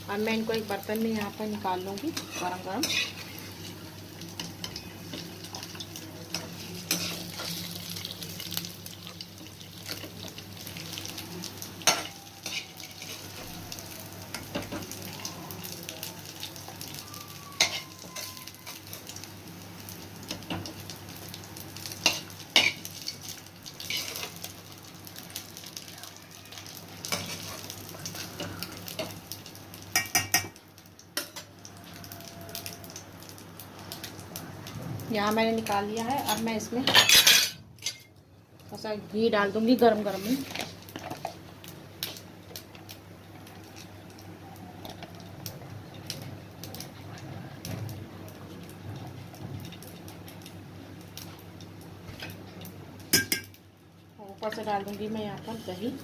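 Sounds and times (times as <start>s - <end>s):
oil sizzling in a pan: 0.0s - 56.0s.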